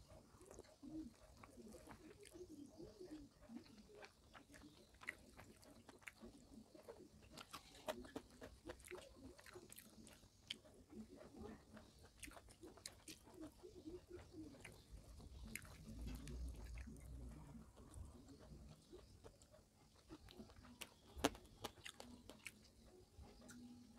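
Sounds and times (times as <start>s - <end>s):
faint close chewing: 0.0s - 23.9s.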